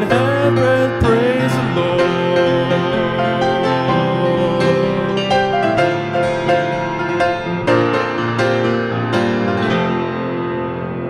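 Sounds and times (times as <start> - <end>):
grand piano chords: 0.0 - 11.0.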